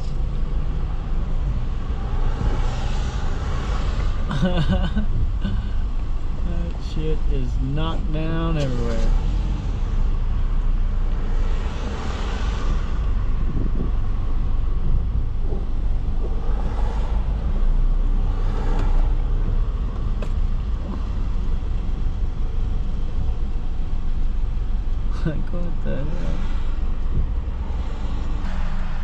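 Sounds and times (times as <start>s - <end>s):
road and engine rumble: 0.0s - 29.0s.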